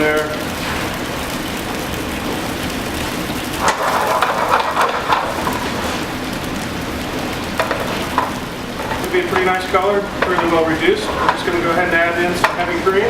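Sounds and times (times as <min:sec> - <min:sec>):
crackles and clicks: 0:00.0 - 0:13.0
wine sizzling in a pan: 0:00.0 - 0:13.0.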